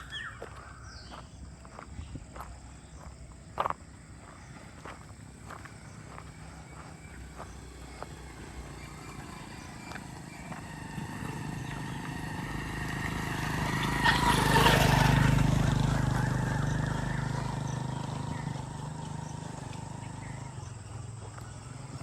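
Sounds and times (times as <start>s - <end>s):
vehicle engine passing: 2.9s - 22.0s.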